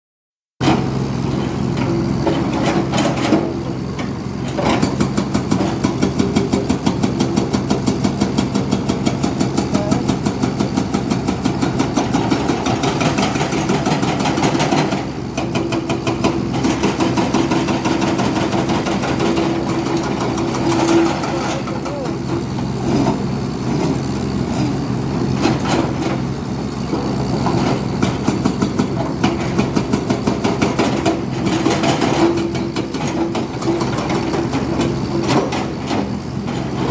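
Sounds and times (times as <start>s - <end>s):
diesel engine pulsing: 0.6s - 36.9s.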